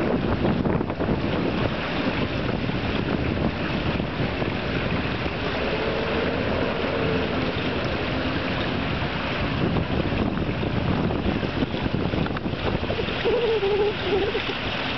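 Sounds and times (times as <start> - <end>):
water rippling: 0.0 - 14.9
wind buffeting microphone: 0.0 - 14.9.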